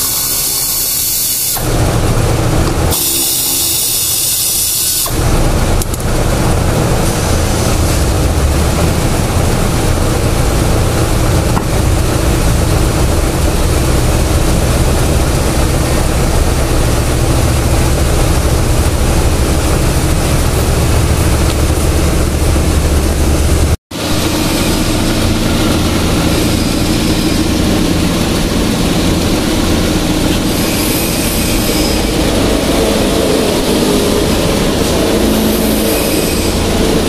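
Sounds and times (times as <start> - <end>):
low motor drone: 0.0 - 37.0.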